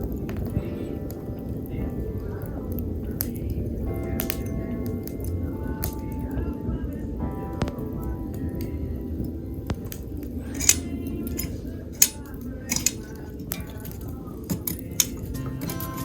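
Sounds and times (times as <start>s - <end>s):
campfire crackling and popping: 0.0s - 16.0s
faint background music: 0.0s - 16.0s.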